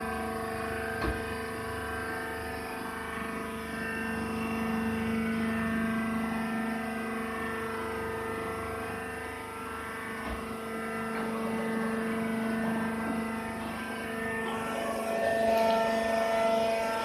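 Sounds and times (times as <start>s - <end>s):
baling machine humming: 0.0s - 17.0s.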